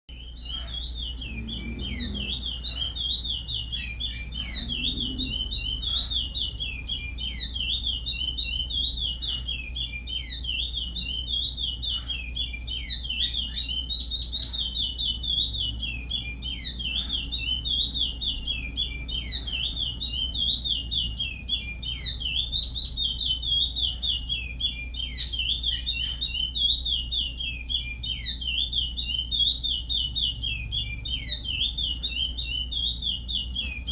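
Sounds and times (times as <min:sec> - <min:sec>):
finch warbling song: 0:00.1 - 0:33.9.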